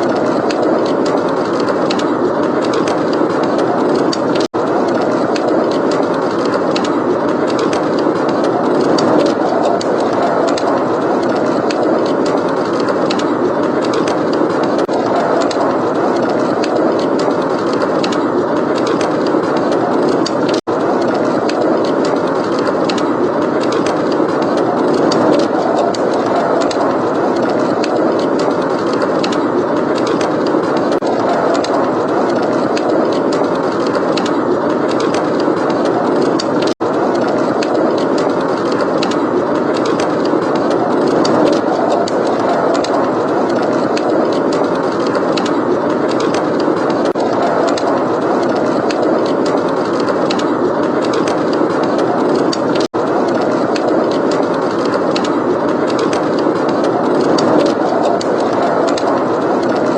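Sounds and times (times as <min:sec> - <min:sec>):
blizzard wind rushing: 0:00.0 - 0:59.9
wood fire crackling: 0:00.0 - 0:59.9.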